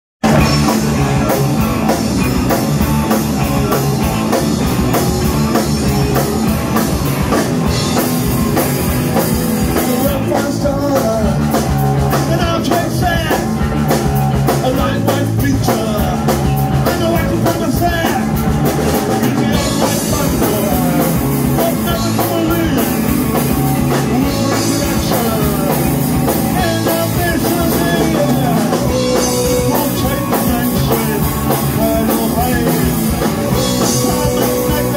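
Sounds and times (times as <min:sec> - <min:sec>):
man singing: 0:00.2 - 0:06.5, 0:09.4 - 0:34.9
bass guitar: 0:00.2 - 0:34.9
drum kit with cymbal beat: 0:00.2 - 0:34.9
electric guitars: 0:00.2 - 0:34.9.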